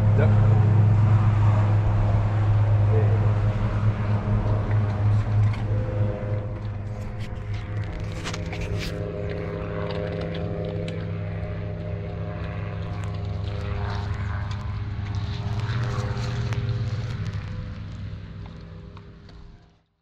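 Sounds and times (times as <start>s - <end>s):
small engine running steadily: 0.0s - 20.0s.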